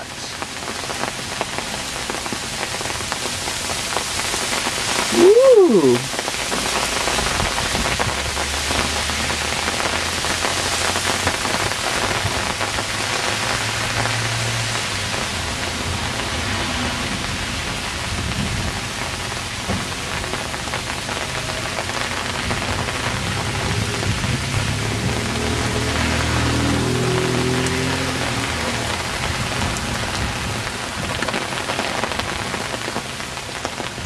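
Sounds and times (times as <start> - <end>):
hail falling heavily: 0.0 - 34.0.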